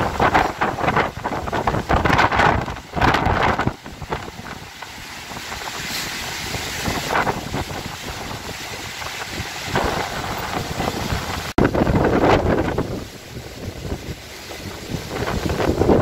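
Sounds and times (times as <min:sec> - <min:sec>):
storm wind buffeting microphone: 0:00.0 - 0:16.0.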